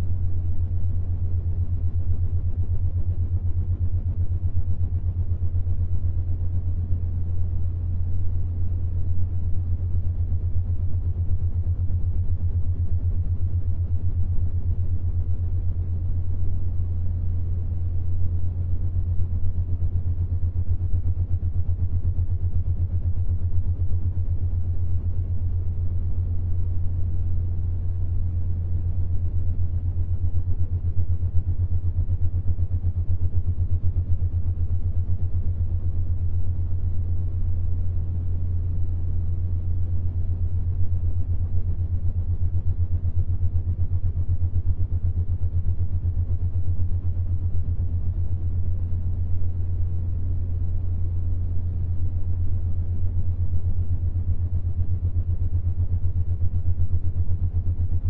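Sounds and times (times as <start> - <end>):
low binaural beat hum: 0.0 - 58.0.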